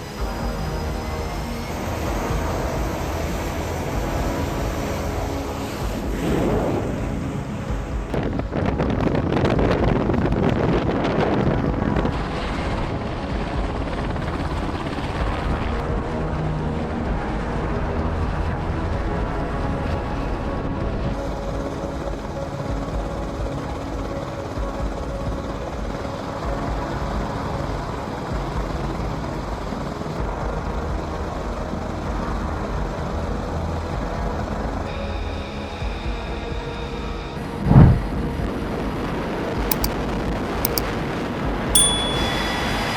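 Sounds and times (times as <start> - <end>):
aircraft drone: 0.0 - 39.9.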